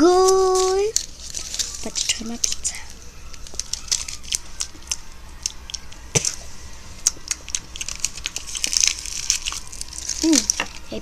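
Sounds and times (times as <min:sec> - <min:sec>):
small hard objects clicking: 0:00.0 - 0:06.4, 0:07.0 - 0:11.0.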